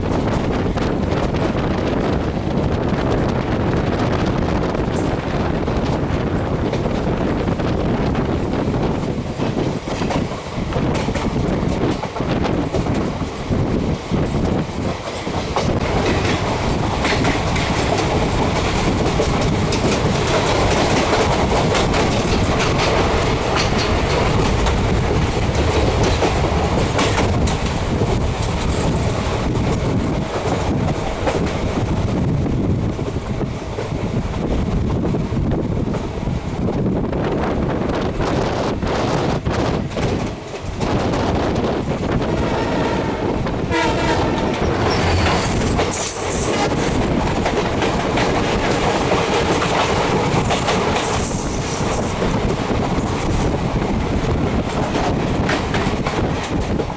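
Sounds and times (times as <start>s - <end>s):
train rumble: 0.0s - 56.9s.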